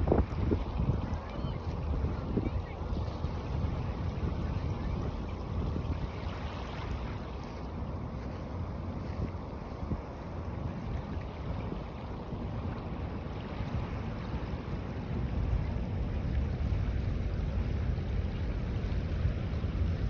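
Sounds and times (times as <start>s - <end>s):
waves washing in: 0.0s - 20.0s
wind buffeting microphone: 0.0s - 20.0s.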